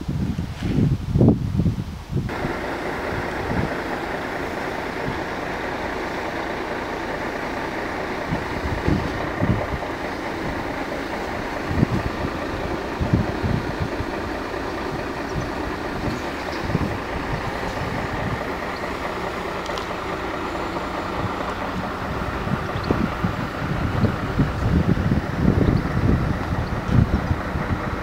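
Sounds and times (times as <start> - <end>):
wind buffeting microphone: 0.0 - 28.0
car engine idling: 2.3 - 28.0.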